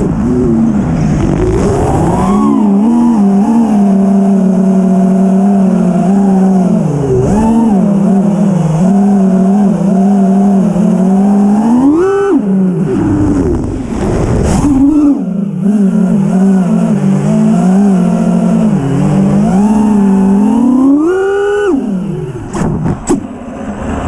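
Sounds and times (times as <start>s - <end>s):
low rushing noise: 0.0s - 11.6s, 12.4s - 21.0s, 21.8s - 24.0s
drone motors whining: 0.0s - 24.0s.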